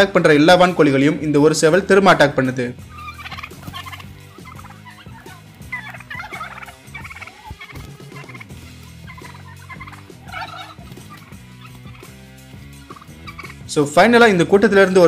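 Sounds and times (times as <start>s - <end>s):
turkeys gobbling: 0.0s - 15.0s.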